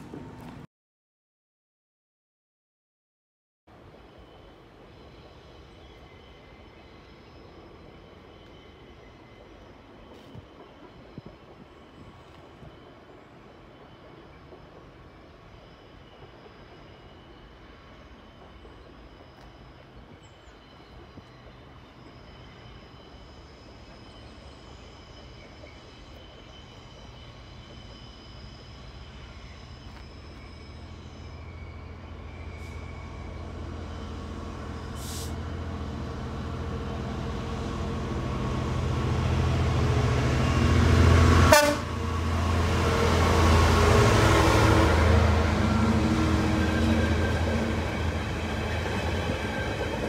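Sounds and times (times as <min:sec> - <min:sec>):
diesel locomotive engine drone: 0:03.7 - 0:50.0.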